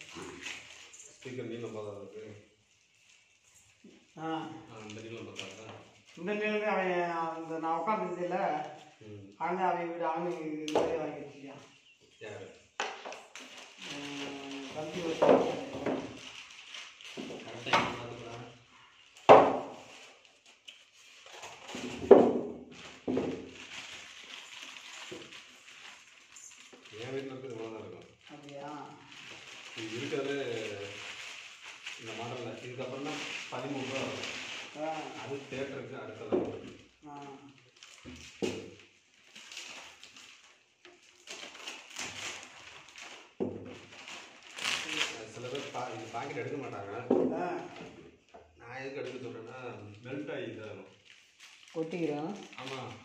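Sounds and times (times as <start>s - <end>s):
plastic packaging crinkling: 0.0s - 53.0s.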